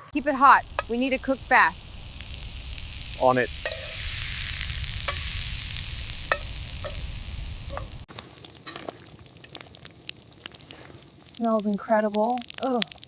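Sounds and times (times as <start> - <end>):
food sizzling in a pot: 0.0 - 13.0
quiet crackling: 0.0 - 13.0.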